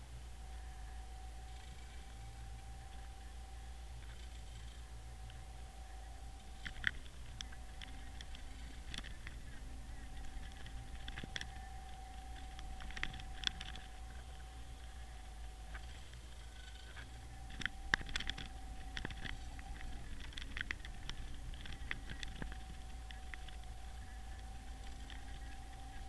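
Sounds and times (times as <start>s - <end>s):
low steady rumble: 0.0s - 26.0s
thin steady whine: 0.0s - 26.0s.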